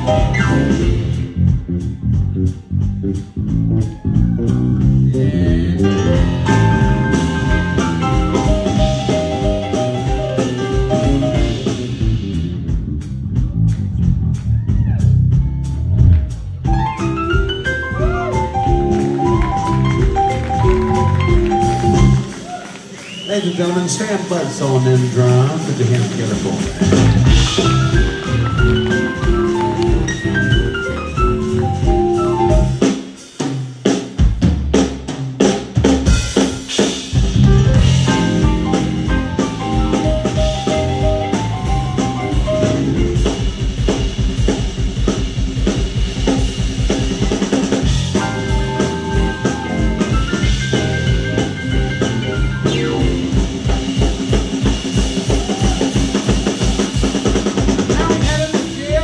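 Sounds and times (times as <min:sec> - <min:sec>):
drum hits: 0:00.0 - 0:22.6, 0:25.8 - 0:33.2, 0:33.9 - 0:59.0
jump blues band playing: 0:00.0 - 0:59.0.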